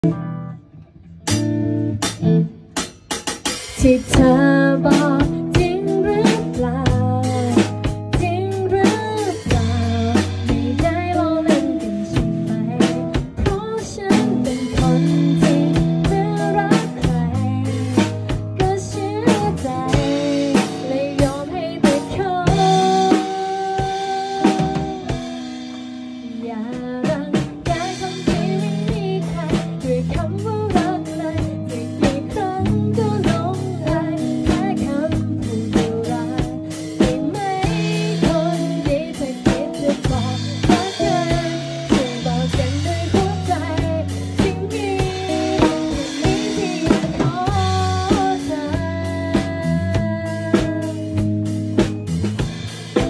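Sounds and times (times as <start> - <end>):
drum kit: 0.0 - 0.6, 1.2 - 53.0
bass line: 0.0 - 3.0, 3.8 - 53.0
woman singing: 3.6 - 53.0.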